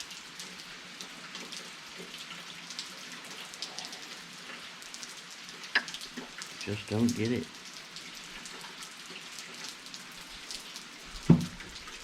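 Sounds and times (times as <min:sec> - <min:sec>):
rain falling: 0:00.0 - 0:12.0
raindrops ticking on hard surfaces: 0:00.0 - 0:12.0.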